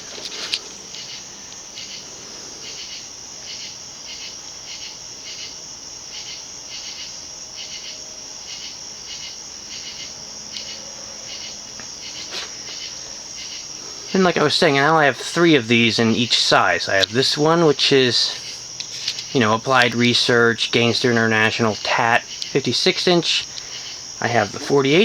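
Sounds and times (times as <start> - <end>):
crickets chirping: 0.0 - 25.0
high-pitched insect drone: 0.0 - 25.0.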